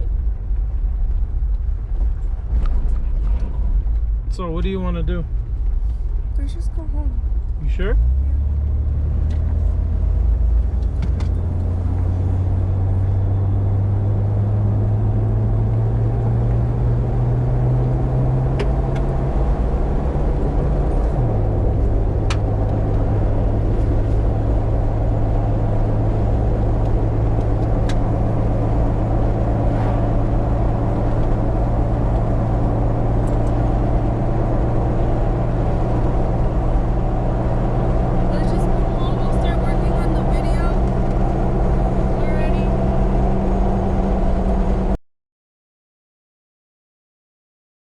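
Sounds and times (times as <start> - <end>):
car engine while driving: 0.0 - 45.0
road noise: 0.0 - 45.0.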